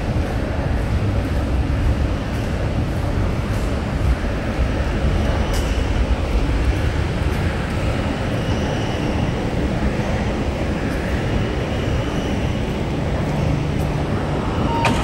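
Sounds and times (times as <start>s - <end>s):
subway station low rumble: 0.0s - 15.0s.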